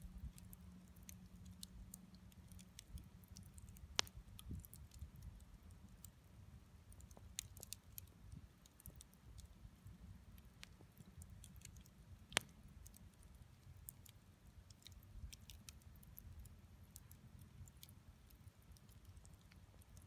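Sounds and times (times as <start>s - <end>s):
bonfire crackling: 0.0s - 20.0s.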